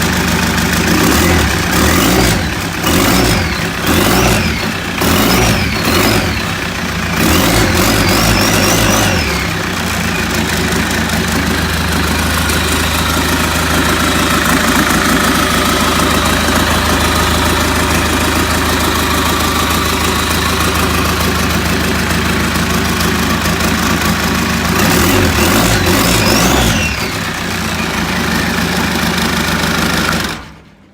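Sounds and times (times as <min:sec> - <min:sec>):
diesel engine revving and idling: 0:00.0 - 0:30.9.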